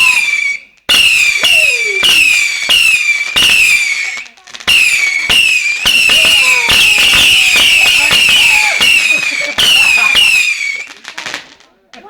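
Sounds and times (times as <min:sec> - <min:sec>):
whistling fireworks: 0:00.0 - 0:12.0.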